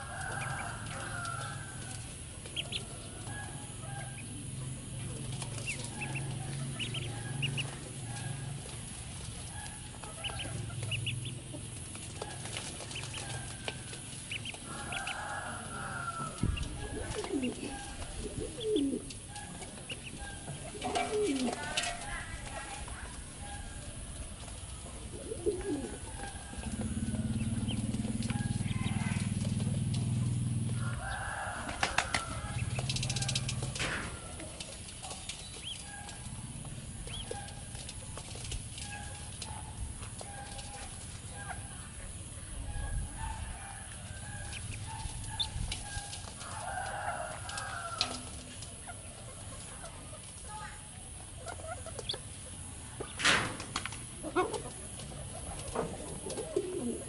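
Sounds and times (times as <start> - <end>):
ducklings peeping: 0.0 - 48.0, 48.6 - 53.2.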